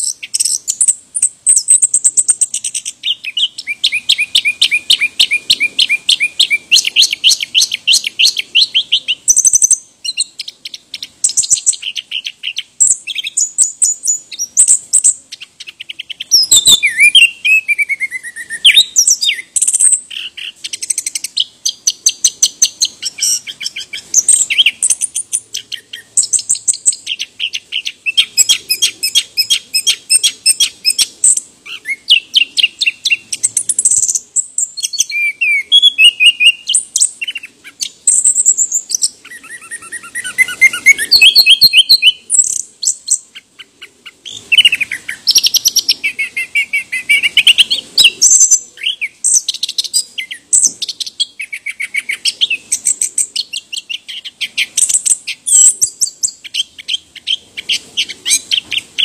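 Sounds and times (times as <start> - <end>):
thrush singing trills: 0.0 - 59.0.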